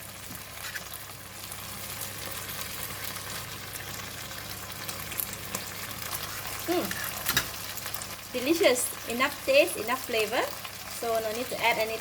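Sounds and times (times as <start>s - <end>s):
food sizzling in a hot pan: 0.0s - 12.0s.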